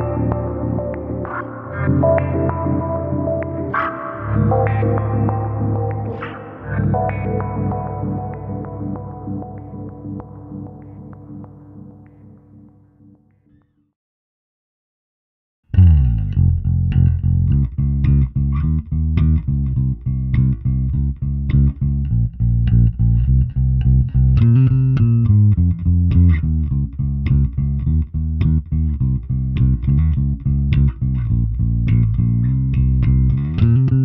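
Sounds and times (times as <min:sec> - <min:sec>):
electric bass plucked notes: 0:00.0 - 0:12.6, 0:15.7 - 0:34.0.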